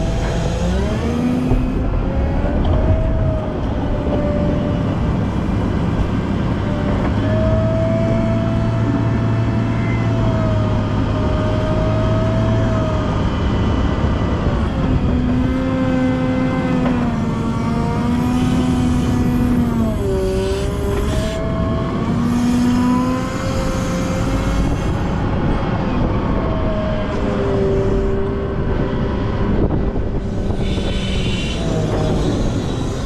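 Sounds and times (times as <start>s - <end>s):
wheel loader diesel engine: 0.0s - 33.0s.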